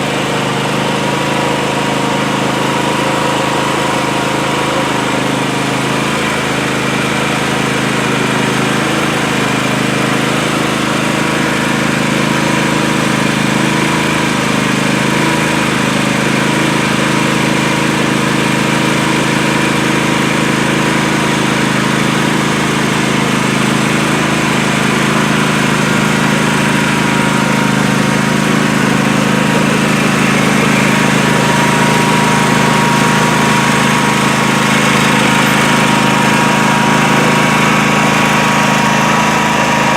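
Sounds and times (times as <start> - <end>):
riding lawn mower engine running: 0.0 - 39.9.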